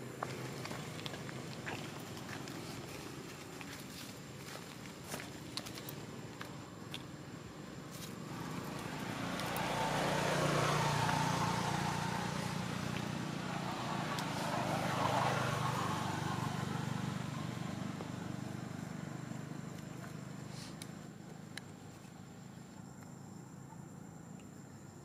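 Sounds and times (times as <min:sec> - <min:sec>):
motor vehicle passing by: 0:00.0 - 0:22.6.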